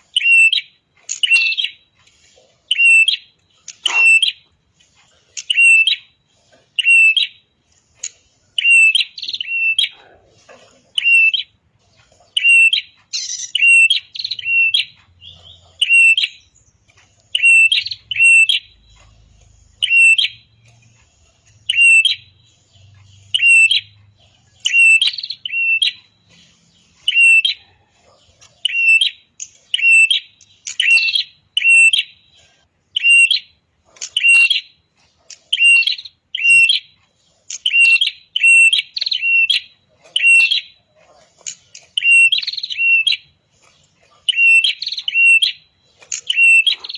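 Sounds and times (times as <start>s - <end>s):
songbird chirping: 0.0s - 46.9s.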